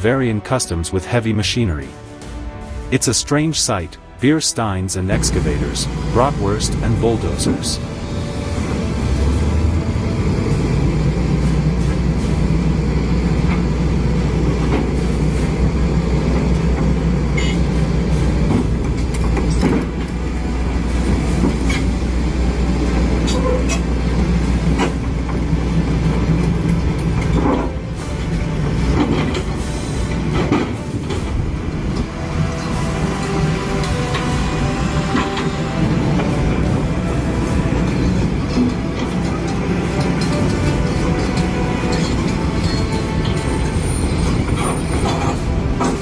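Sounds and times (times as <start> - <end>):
heavy engine rumbling: 0.0 - 46.0.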